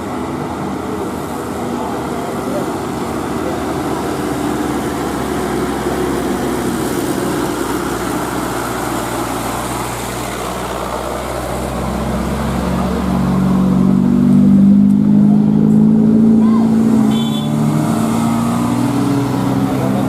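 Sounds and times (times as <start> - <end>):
dump truck engine running: 0.0 - 20.0.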